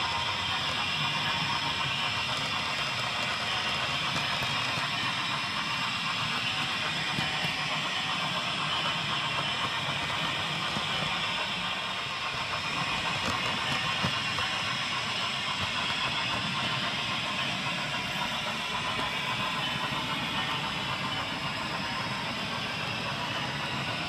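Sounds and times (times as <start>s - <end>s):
model train rolling hiss: 0.0s - 24.0s.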